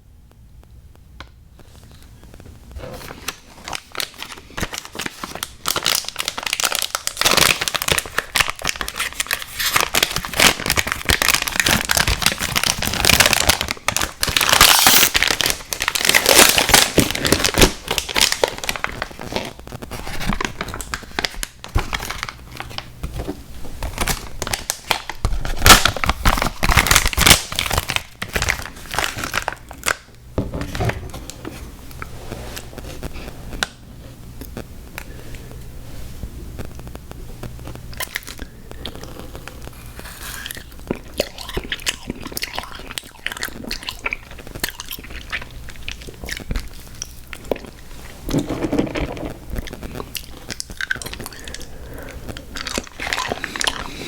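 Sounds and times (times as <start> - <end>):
plastic packaging crinkling: 1.6 - 33.8, 37.6 - 54.0.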